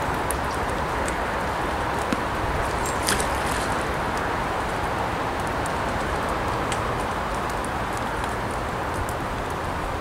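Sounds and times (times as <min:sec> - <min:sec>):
steady outdoor rush: 0:00.0 - 0:10.0.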